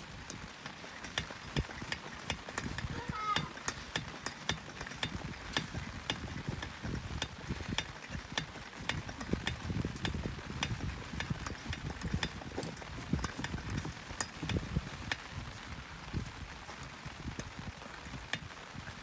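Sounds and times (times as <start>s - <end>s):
sharp irregular ticks and taps: 0.2s - 15.6s
wind buffeting microphone: 1.4s - 19.0s.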